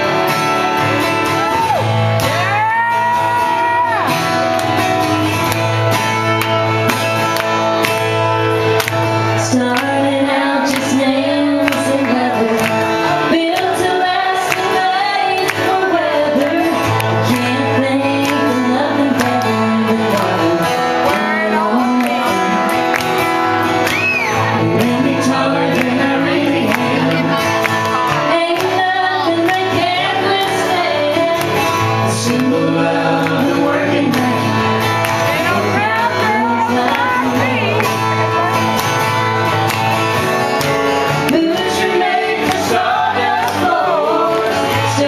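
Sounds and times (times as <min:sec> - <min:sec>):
woman singing country song: 0:00.0 - 0:06.7, 0:08.7 - 0:45.0
acoustic guitar strumming: 0:00.0 - 0:45.0.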